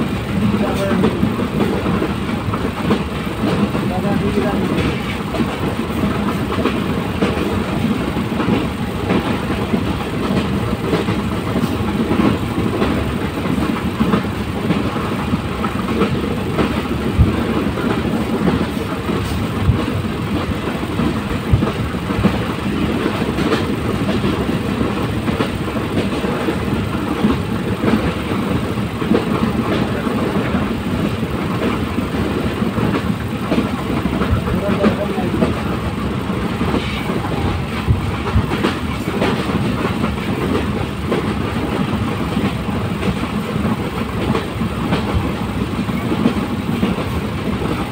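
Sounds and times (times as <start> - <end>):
train rumbling and rattling: 0.0 - 47.9.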